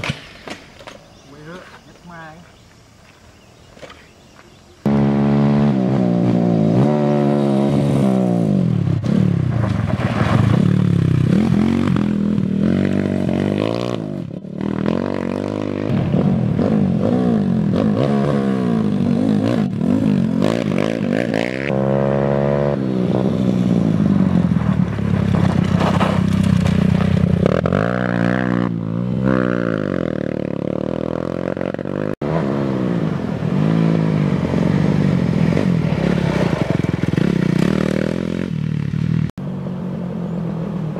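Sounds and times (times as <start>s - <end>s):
off-road motorcycle engines revving: 3.4s - 40.9s.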